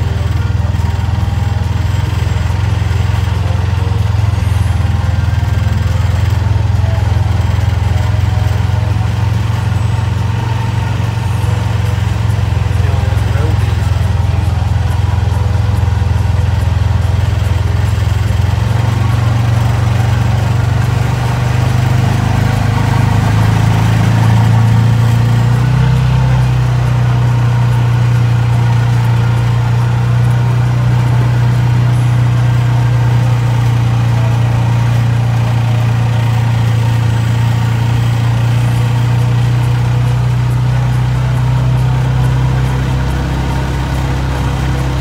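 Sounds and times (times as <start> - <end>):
utility vehicle engine running: 0.0 - 45.0.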